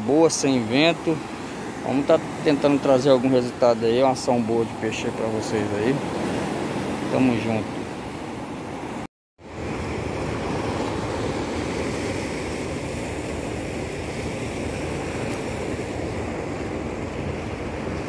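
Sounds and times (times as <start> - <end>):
surf washing over rocks: 0.0 - 18.0.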